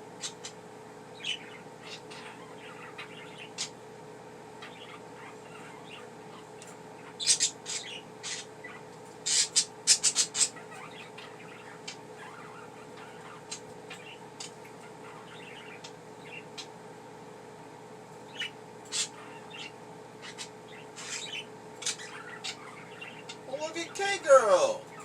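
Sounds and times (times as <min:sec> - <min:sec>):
budgerigars chirping: 0:00.2 - 0:00.6, 0:01.2 - 0:03.8, 0:04.6 - 0:16.7, 0:18.3 - 0:24.0.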